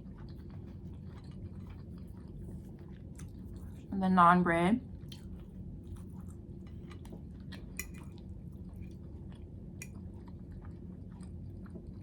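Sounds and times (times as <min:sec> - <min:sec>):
person chewing food: 0:00.0 - 0:03.9, 0:05.0 - 0:12.0
steady low hum: 0:00.0 - 0:12.0.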